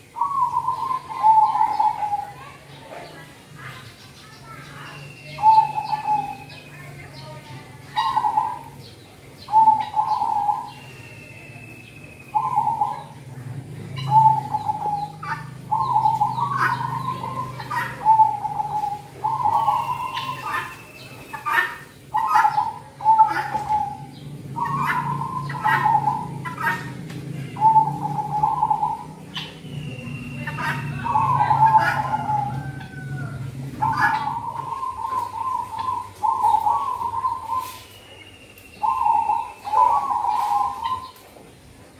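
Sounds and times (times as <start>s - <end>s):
dove cooing: 0.0s - 3.3s, 5.2s - 7.2s, 7.8s - 8.8s, 9.4s - 10.9s, 12.2s - 37.9s, 38.8s - 41.3s.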